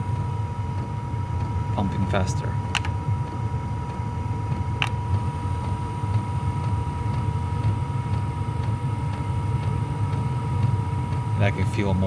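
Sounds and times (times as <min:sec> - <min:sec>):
air heater fan rumble: 0:00.0 - 0:12.0
thin constant whine: 0:00.0 - 0:12.0.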